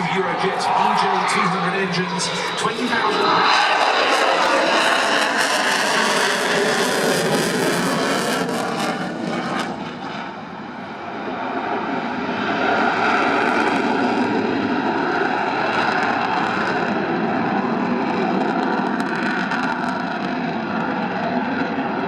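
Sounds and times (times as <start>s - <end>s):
loud jet engine noise: 0.0s - 22.0s.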